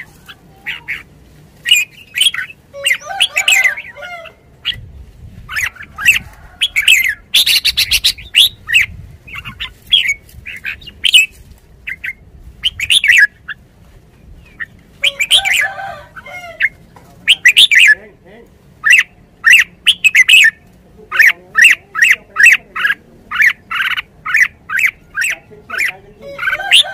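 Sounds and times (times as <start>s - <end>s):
bird chirping: 0.0s - 4.9s, 5.5s - 15.7s, 16.5s - 18.1s, 18.8s - 26.9s.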